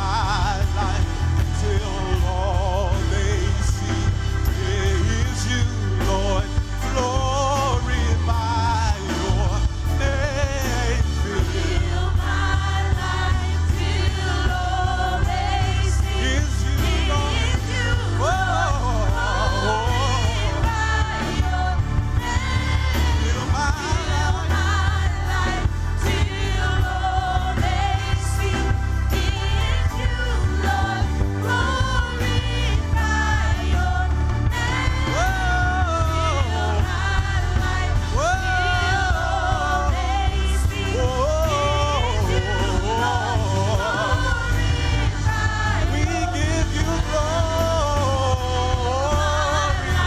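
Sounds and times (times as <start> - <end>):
full band with strong bass: 0.0 - 50.0
group singing worship song: 0.0 - 50.0.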